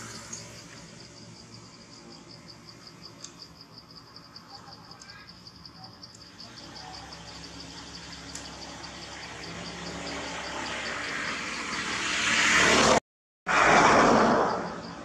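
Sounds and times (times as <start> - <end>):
insect chirping in fast pulse: 0.0 - 12.9, 13.5 - 15.0.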